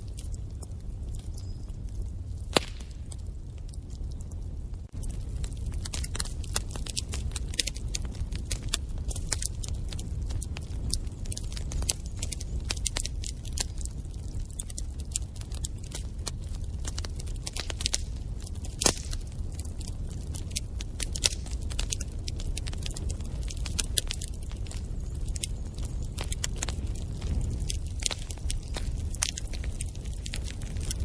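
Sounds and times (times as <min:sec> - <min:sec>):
low rumble of flames: 0:00.0 - 0:31.0
wood fire crackling and popping: 0:00.0 - 0:31.0.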